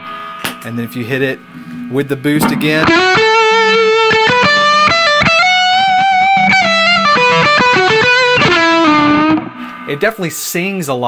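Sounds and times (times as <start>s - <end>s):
distorted electric guitar lead: 0.0s - 10.3s.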